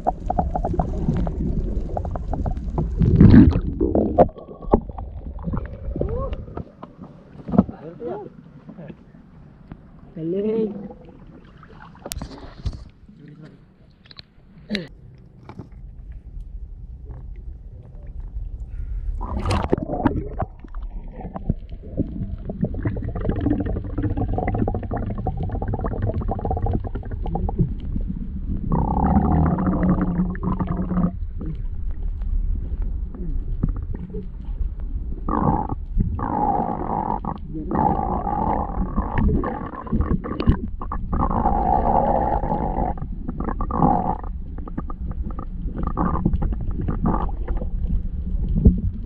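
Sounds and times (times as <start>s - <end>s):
underwater churning rumble: 0.0s - 12.8s, 15.4s - 49.0s.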